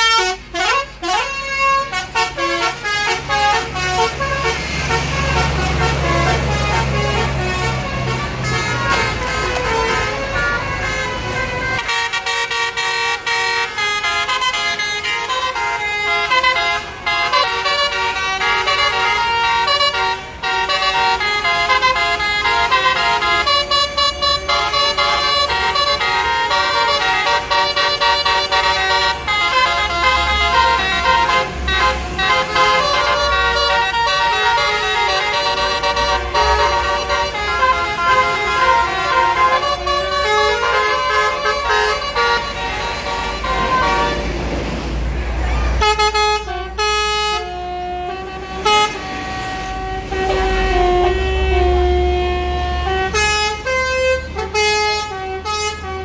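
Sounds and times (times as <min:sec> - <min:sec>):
musical air horns melody: 0:00.0 - 0:44.9, 0:45.7 - 0:56.0
bus engine rumbling: 0:00.0 - 0:56.0.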